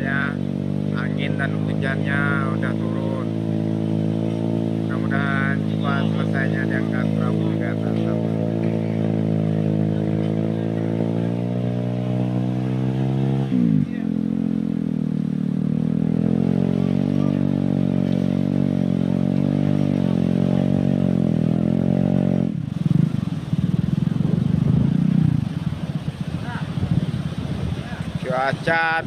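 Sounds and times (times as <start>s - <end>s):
rough uneven rumble: 0.0s - 29.0s.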